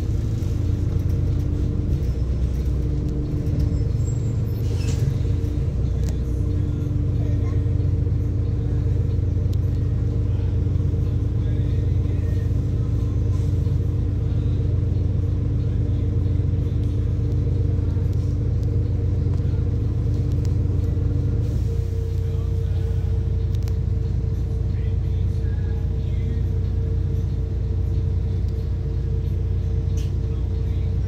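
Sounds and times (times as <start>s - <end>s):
bus engine low rumble: 0.0s - 31.0s
steady hums: 0.0s - 31.0s.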